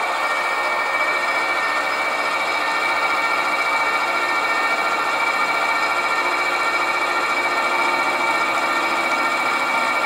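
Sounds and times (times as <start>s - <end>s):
lathe drilling into metal: 0.0s - 10.0s.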